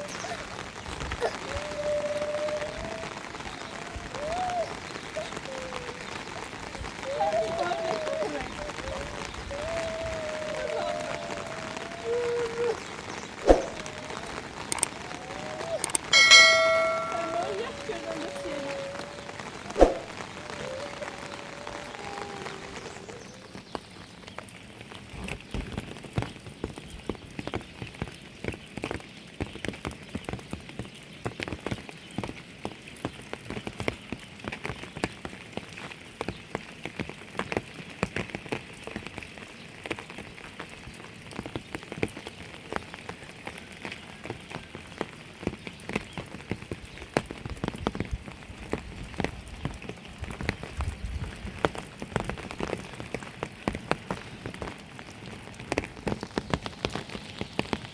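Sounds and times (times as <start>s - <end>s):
rain falling: 0.0s - 57.9s
raindrops ticking on a surface: 0.0s - 57.9s.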